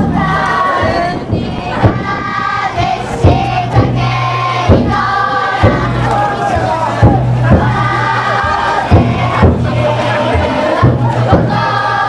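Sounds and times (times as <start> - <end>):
big taiko drum beats: 0.0 - 12.0
group chanting: 0.0 - 12.0.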